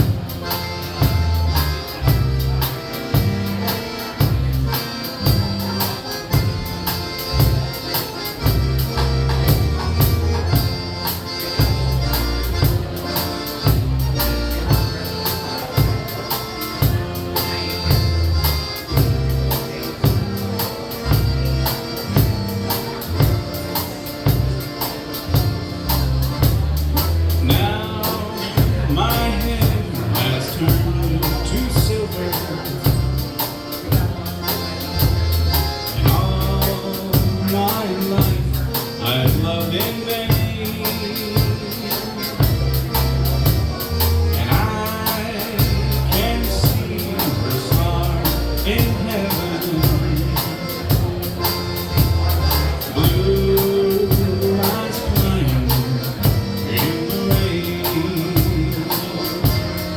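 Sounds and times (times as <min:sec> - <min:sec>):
bass line: 0:00.0 - 0:59.9
guitar: 0:00.0 - 0:59.9
live band playing country ballad: 0:00.0 - 0:59.9.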